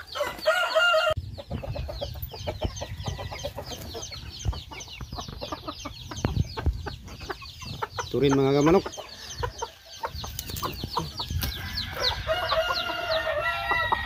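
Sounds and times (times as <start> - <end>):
chickens cheeping and clucking: 0.0 - 14.0.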